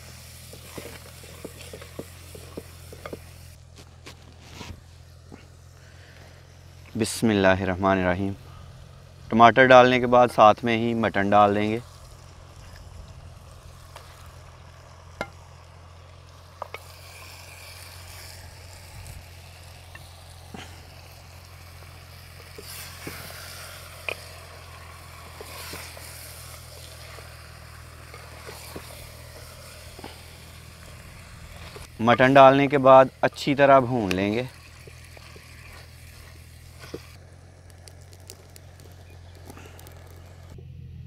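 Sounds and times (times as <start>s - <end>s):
meat sizzling in a pot: 0.0s - 3.6s, 10.7s - 40.6s.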